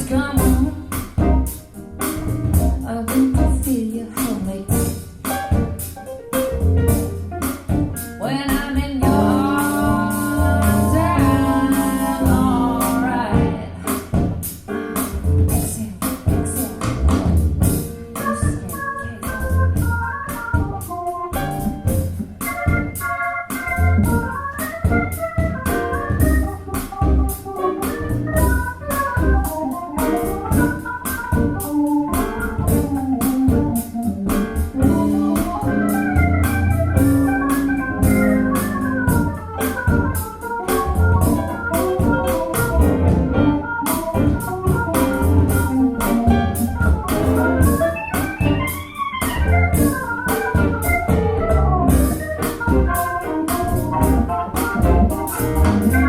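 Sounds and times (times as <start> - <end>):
music with keyboard melody: 5.2 - 15.3, 17.6 - 56.0.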